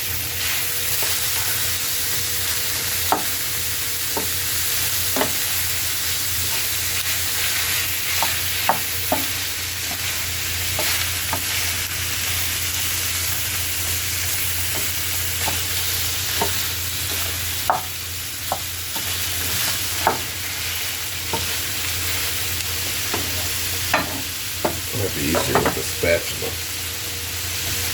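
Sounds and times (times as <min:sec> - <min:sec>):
meat and onions sizzling in a pan: 0:00.0 - 0:27.9.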